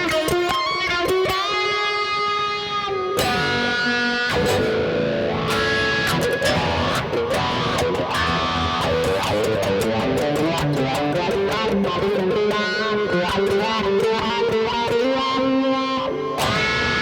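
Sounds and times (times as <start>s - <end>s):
electric guitar single notes: 0.0s - 17.0s.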